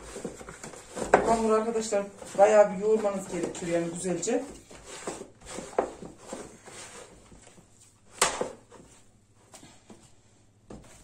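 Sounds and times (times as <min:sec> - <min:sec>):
dough squishing: 0:00.0 - 0:09.9.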